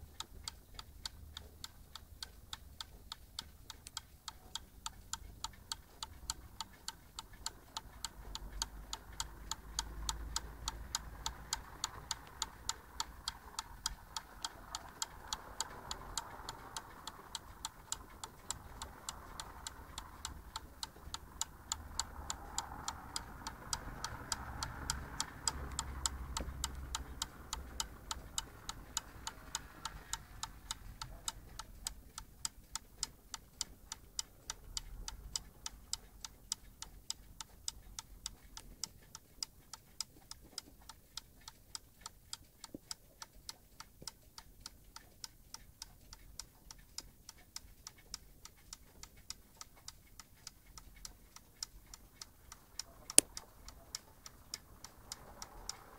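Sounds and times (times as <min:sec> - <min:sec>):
clock ticking: 0:00.0 - 0:55.9.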